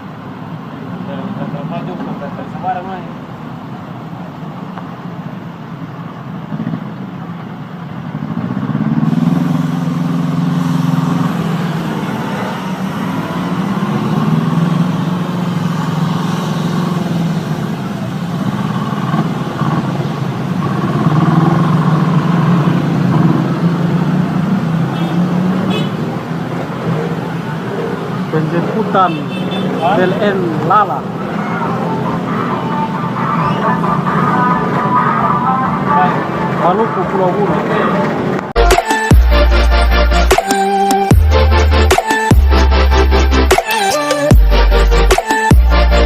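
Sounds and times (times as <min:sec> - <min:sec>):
heavy vehicle engine revving: 0:08.0 - 0:43.6, 0:44.3 - 0:46.0.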